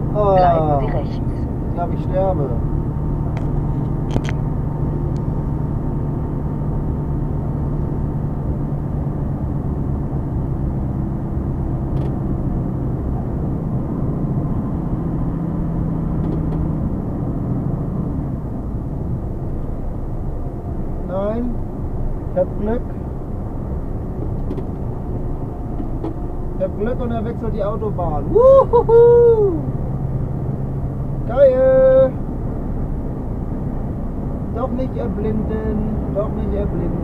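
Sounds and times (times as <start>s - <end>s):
road and tyre rumble: 0.0s - 37.0s
truck diesel engine droning: 0.0s - 37.0s.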